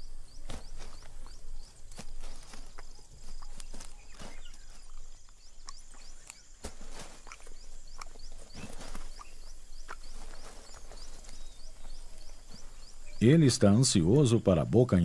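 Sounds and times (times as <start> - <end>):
claws scraping sandy soil: 0.0 - 14.1.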